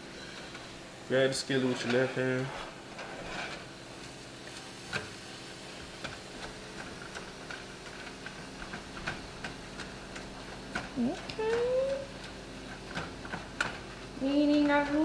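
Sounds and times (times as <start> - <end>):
meat popping in a skillet: 2.9 - 15.0.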